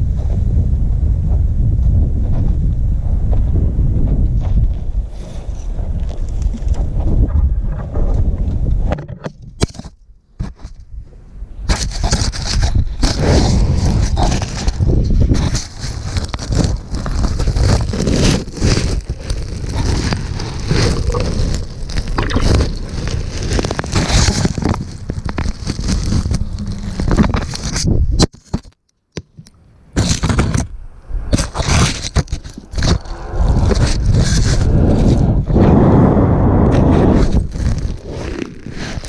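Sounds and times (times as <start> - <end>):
scraping and rubbing on microphone: 3.3 - 11.0, 11.7 - 28.7, 30.0 - 39.0.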